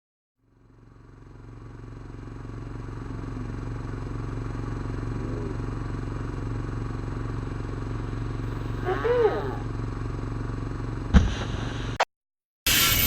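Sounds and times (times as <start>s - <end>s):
engine running with low pulsing: 0.4s - 12.0s.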